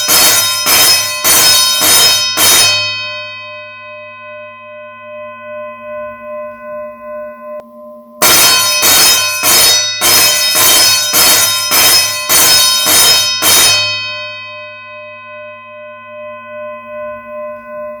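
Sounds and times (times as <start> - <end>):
pulsing bell tone: 0.0 - 18.0
school bell strokes: 0.0 - 18.0.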